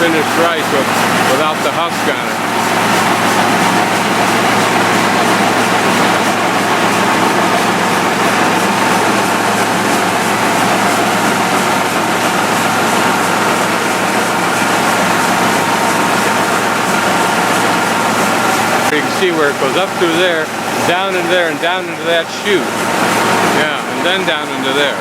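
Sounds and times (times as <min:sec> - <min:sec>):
rice milling machine running: 0:00.0 - 0:25.0.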